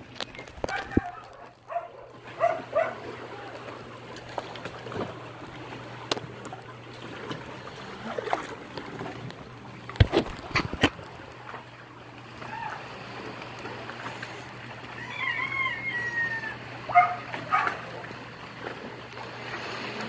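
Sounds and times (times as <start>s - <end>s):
water sloshing and trickling: 0.0s - 20.0s.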